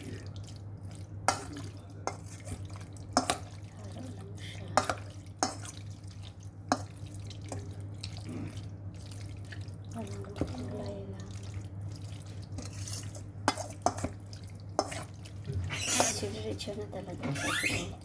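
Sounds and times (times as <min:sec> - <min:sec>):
spoon stirring wet chicken: 0:00.0 - 0:16.8
steady low hum: 0:00.0 - 0:18.0.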